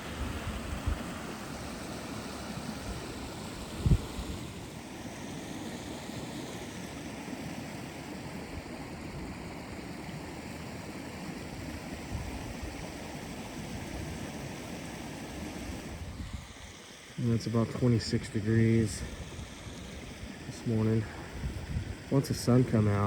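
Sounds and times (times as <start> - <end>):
creek flowing: 0.0 - 23.0.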